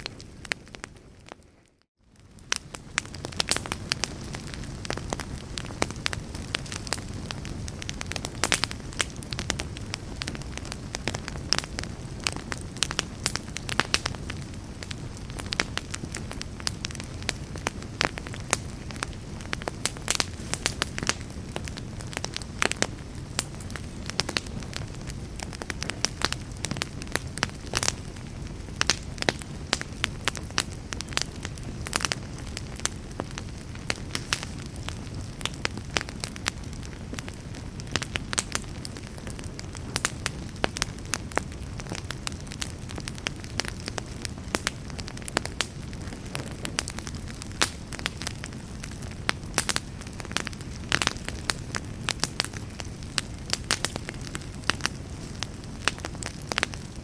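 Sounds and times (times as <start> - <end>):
campfire crackling: 0.0 - 57.0
sharp pops of burning wood: 0.0 - 57.0.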